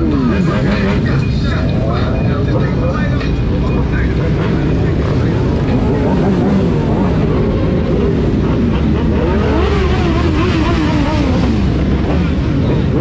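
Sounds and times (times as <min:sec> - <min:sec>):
motorcycle engines idling and revving: 0:00.0 - 0:13.0.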